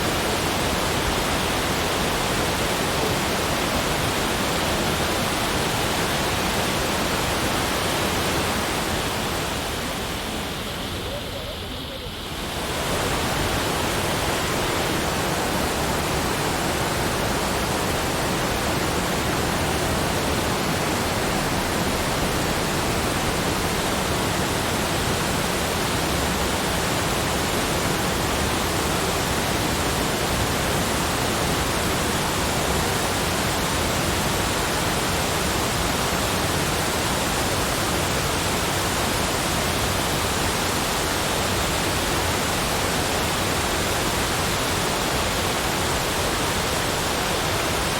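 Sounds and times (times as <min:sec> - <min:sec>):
steady rushing noise: 0:00.0 - 0:47.9.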